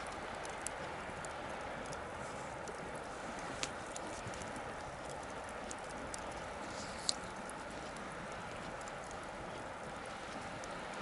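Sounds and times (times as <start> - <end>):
bonfire hissing: 0.0 - 11.0
faint fire crackles: 0.0 - 11.0.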